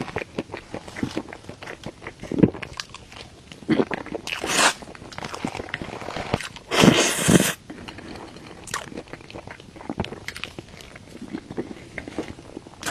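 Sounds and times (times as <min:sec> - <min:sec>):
bites and chewing: 0:00.0 - 0:12.9.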